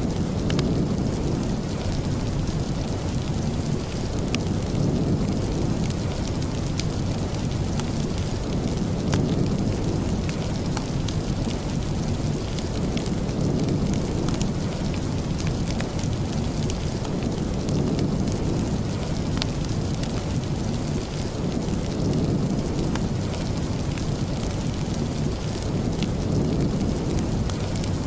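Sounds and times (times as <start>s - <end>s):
steady rain: 0.0s - 28.0s
wood fire crackling: 0.0s - 28.0s.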